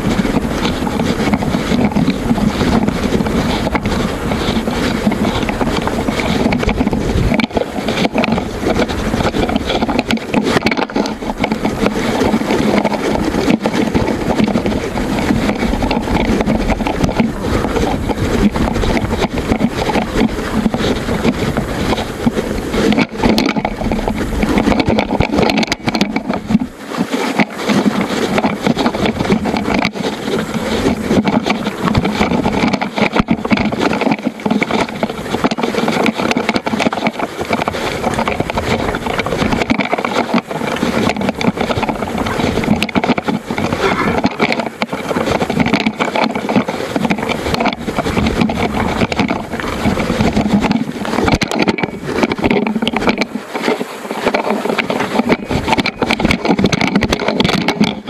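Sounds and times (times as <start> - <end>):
camera rattling against bike: 0.0 - 58.0.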